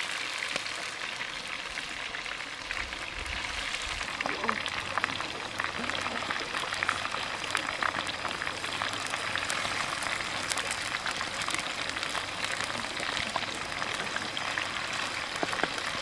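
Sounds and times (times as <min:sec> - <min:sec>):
chicken wings sizzling in oil: 0:00.0 - 0:16.0
oil popping and crackling: 0:00.0 - 0:16.0.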